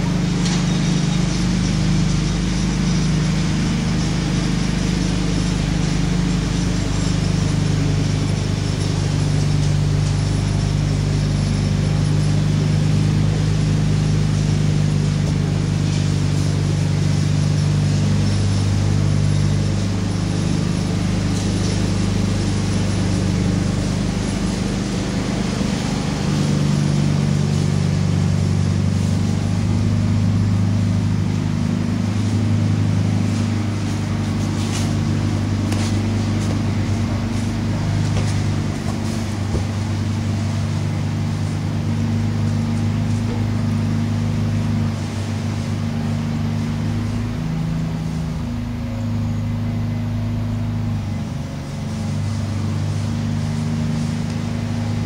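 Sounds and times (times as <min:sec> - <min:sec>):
motor humming: 0:00.0 - 0:55.0.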